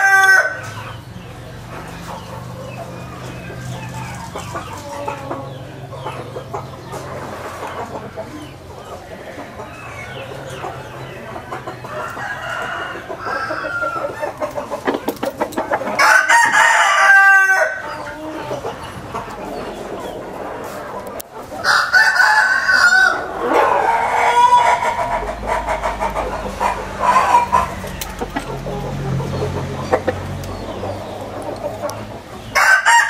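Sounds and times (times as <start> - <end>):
chickens clucking: 0.0 - 33.0
roosters crowing: 0.0 - 33.0.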